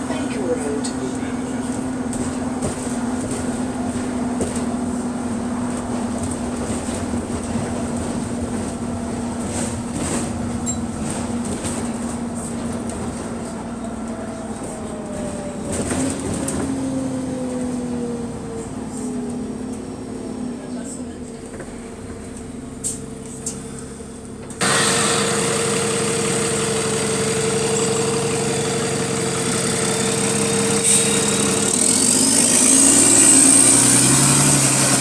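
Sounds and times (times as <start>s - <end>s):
bus engine drone: 0.0s - 35.0s.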